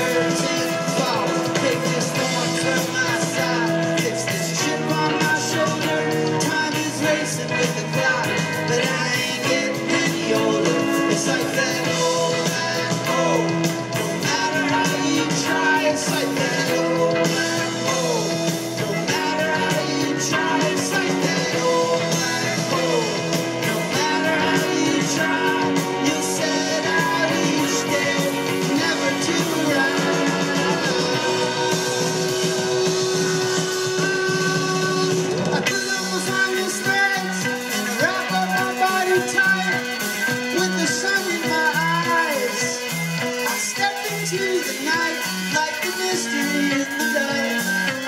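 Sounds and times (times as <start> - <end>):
lead vocal singing: 0.0 - 48.0
rock band playing live: 0.0 - 48.0.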